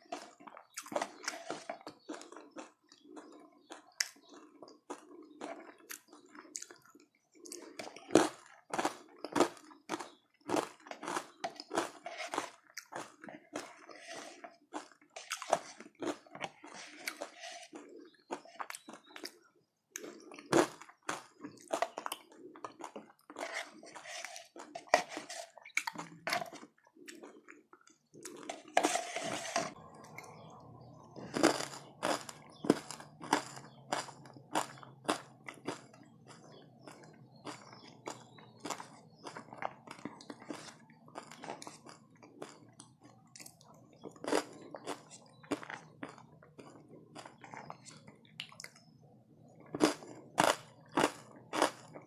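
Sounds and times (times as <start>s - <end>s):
crunchy chewing: 0.0s - 52.0s.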